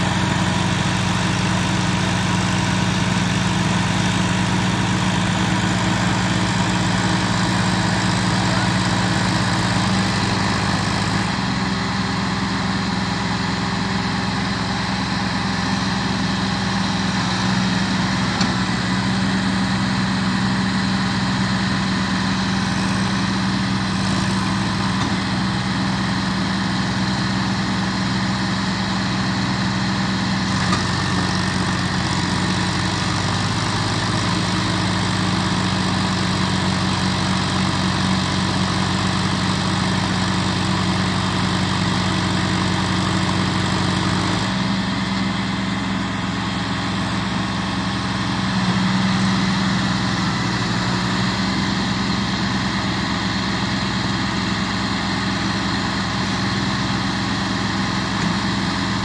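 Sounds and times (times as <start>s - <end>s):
tractor engines under load: 0.0s - 59.0s.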